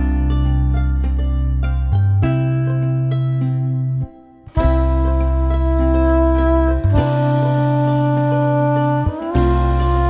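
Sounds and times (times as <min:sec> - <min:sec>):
plucked notes over bass: 0:00.0 - 0:10.0.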